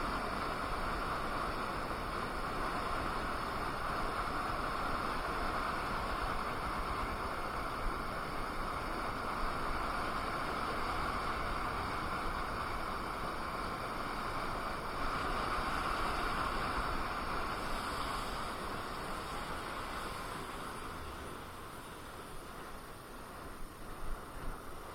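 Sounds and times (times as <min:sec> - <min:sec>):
low road rumble: 0:00.0 - 0:24.9.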